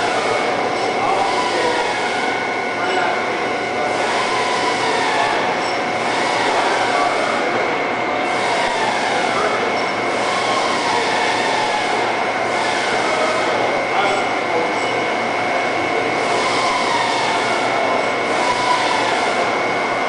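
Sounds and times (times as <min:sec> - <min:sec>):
boring mill machine running: 0:00.0 - 0:20.0
steady high whine: 0:00.0 - 0:20.0.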